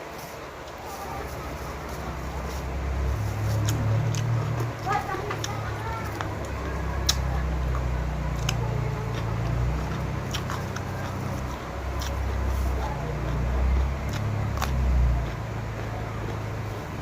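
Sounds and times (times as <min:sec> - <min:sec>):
low uneven rumble: 0:00.0 - 0:17.0
chewing: 0:00.6 - 0:17.0.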